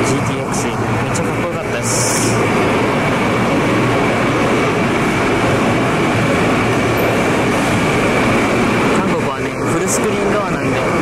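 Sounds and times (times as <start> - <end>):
high steady whine: 0.0 - 11.0
train and air rushing: 0.0 - 11.0.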